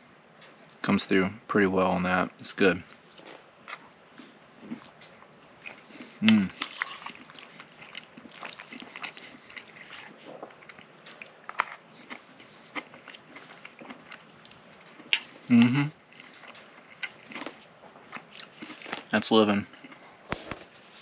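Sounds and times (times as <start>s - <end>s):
person chewing: 2.9s - 20.7s.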